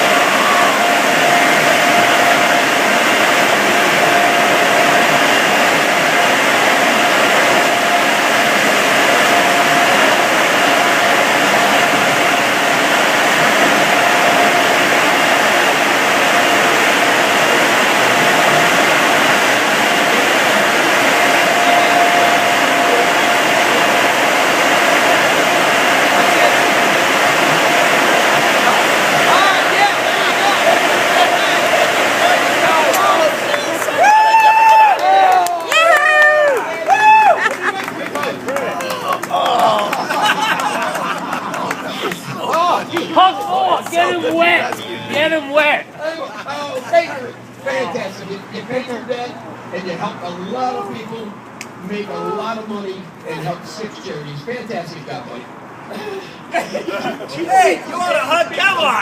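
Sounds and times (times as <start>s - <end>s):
air dryer blowers rushing: 0.0s - 59.0s.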